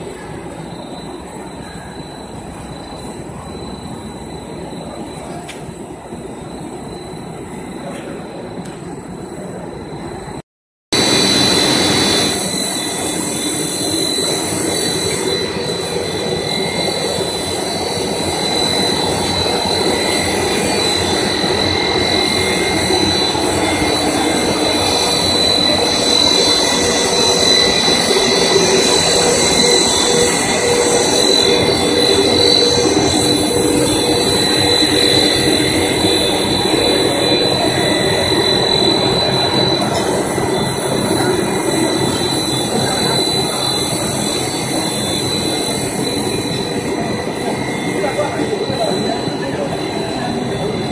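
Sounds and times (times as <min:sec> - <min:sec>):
high-pitched machine whines: 0:00.0 - 0:10.4, 0:11.0 - 0:50.9
machinery drone: 0:00.0 - 0:10.4, 0:11.0 - 0:50.9.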